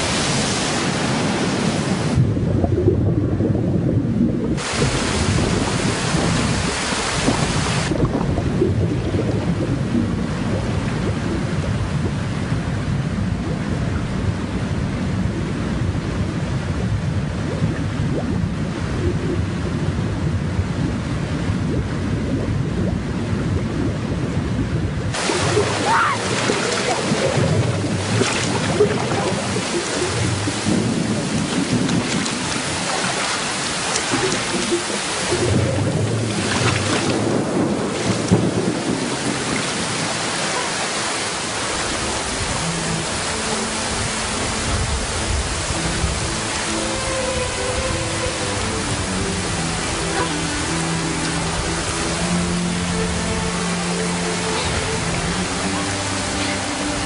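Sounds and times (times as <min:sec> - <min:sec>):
strong wind rushing: 0:00.0 - 0:57.0.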